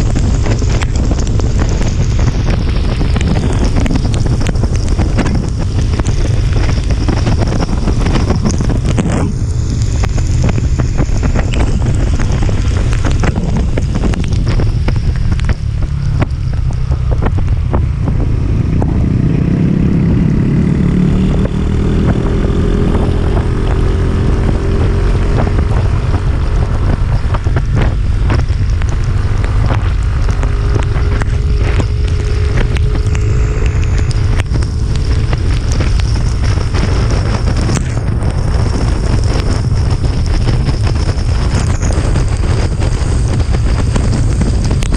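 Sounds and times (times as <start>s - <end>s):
vehicle engine: 0.0s - 44.9s
wind buffeting microphone: 0.0s - 44.9s.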